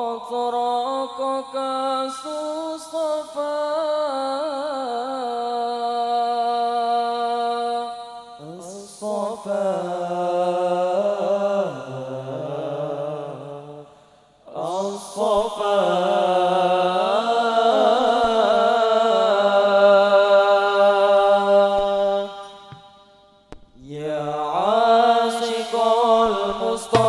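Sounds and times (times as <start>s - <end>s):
man singing into microphone: 0.0s - 13.9s, 14.5s - 22.8s, 23.8s - 27.0s.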